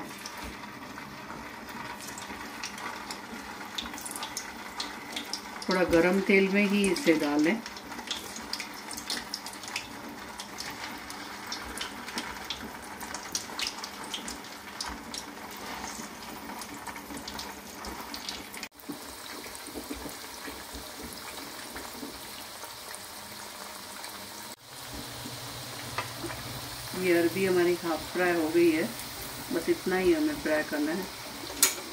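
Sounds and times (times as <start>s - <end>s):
food sizzling in hot oil: 0.0s - 31.9s.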